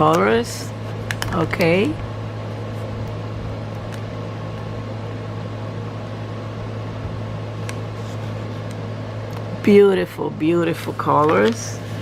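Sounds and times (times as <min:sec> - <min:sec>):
fan hum and hiss: 0:00.0 - 0:12.0.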